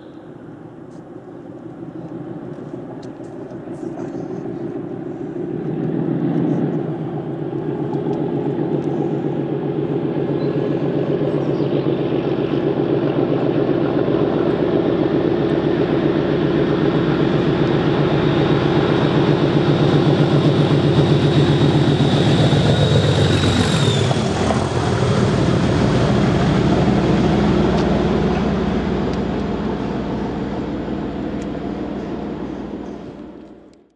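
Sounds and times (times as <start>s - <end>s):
train passing at speed: 0.0s - 33.8s.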